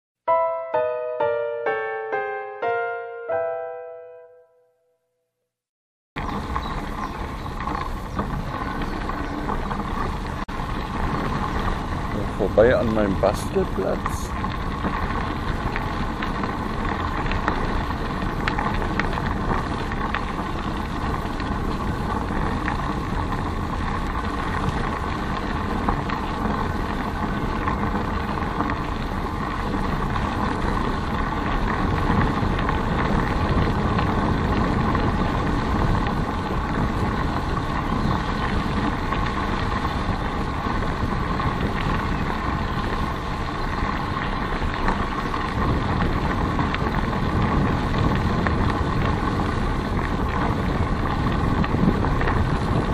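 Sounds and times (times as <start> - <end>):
road rumble: 6.2 - 52.9
wind buffeting microphone: 6.2 - 52.9.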